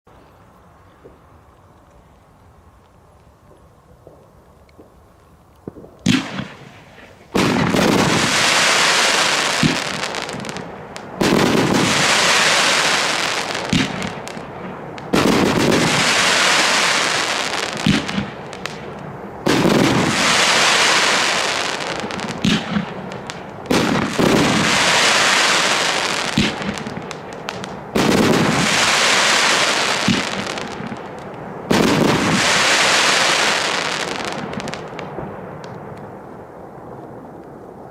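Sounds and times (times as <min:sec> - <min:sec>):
crackling firework bursts: 0:00.9 - 0:37.9.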